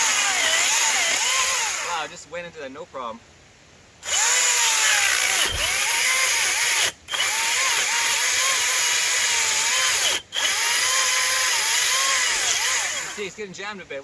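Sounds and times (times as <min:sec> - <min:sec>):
chainsaw cutting tree trunk: 0:00.0 - 0:02.2, 0:04.0 - 0:13.4.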